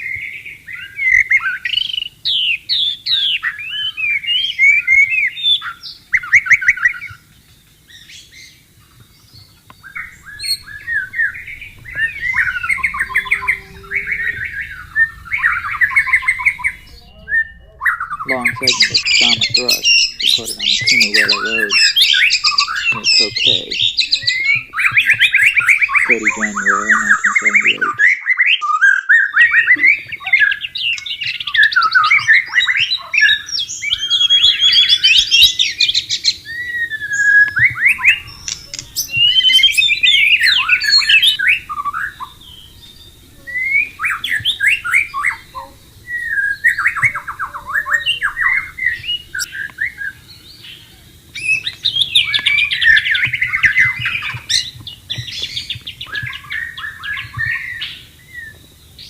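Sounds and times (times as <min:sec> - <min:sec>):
bird singing whistled phrases: 0:09.8 - 0:58.7.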